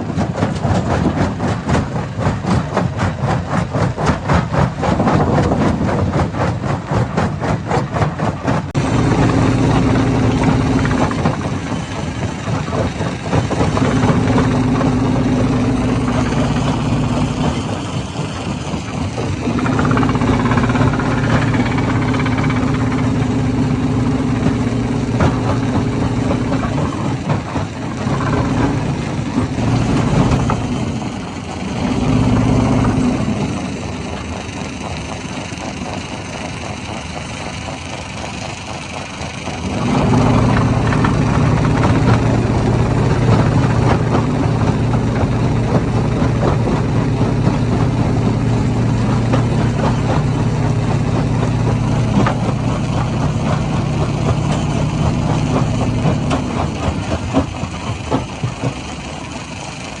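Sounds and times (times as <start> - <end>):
stone crusher drone: 0.0 - 60.0.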